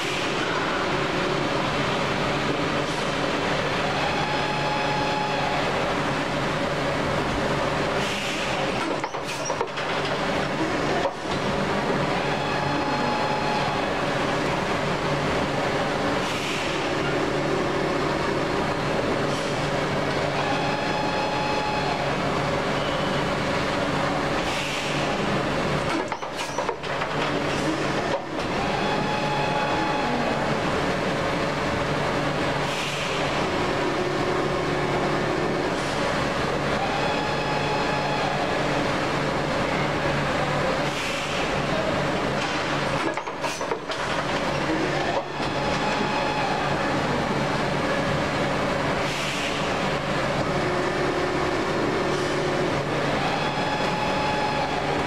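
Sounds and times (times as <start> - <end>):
machine mechanical drone: 0.0 - 55.0.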